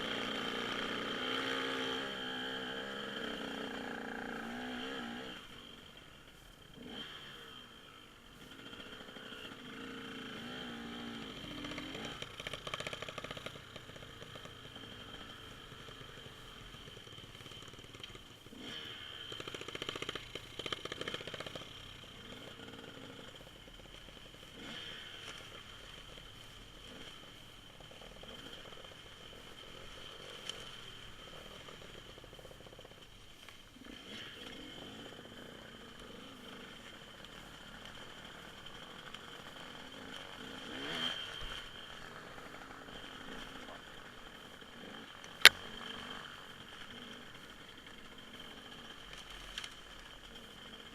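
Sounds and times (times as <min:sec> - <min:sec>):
distant dirt bike engine revving: 0:00.0 - 0:05.9, 0:06.7 - 0:50.9.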